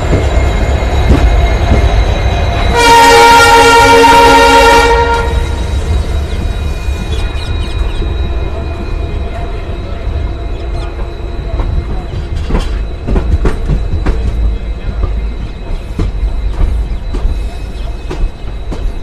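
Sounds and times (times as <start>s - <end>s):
train wheels rumbling on track: 0.0s - 19.0s
wheels clacking on track: 0.0s - 19.0s.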